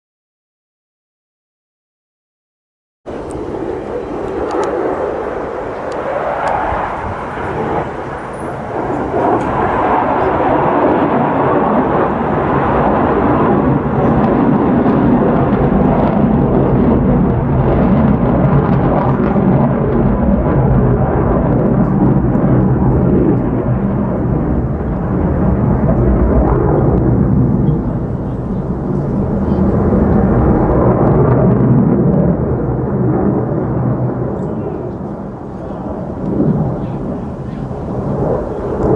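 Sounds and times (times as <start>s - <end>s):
fighter jet engine roar: 3.1s - 38.9s.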